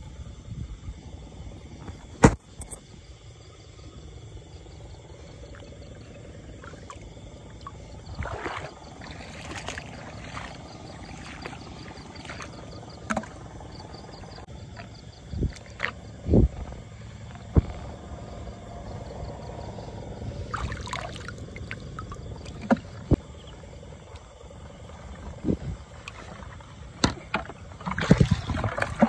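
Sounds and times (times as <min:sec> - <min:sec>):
steady hum: 0:00.0 - 0:28.8
crickets and insects trilling: 0:00.0 - 0:29.0
frogs: 0:00.0 - 0:29.0
rustling and sloshing water: 0:04.5 - 0:29.0.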